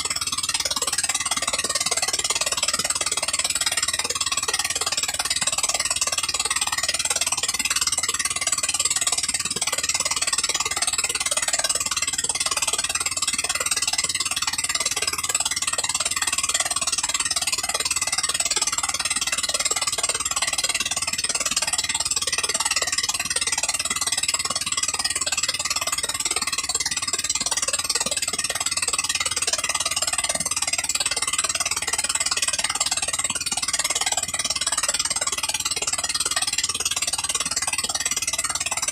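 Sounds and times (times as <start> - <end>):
gasoline engine running steadily: 0.0 - 38.9.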